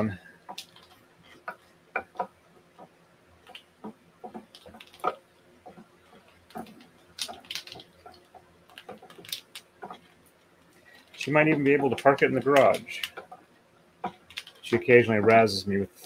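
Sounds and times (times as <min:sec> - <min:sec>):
wooden bobbins clicking: 0:00.4 - 0:15.5.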